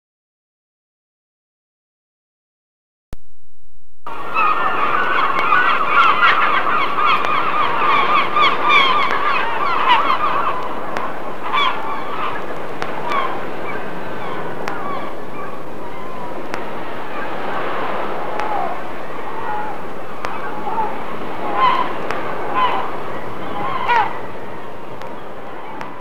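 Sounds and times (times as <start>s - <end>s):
seagulls calling: 4.1s - 26.0s
steady background noise: 4.1s - 26.0s.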